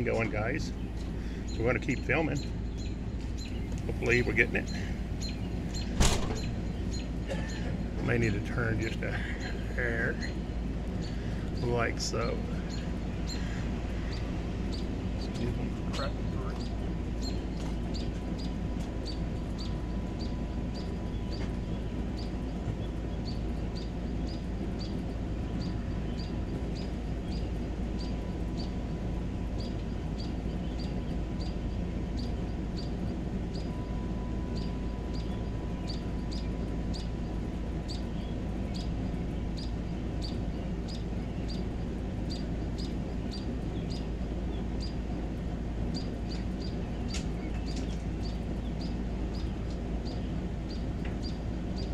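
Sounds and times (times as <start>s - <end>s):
constant low rumble: 0.0s - 51.9s.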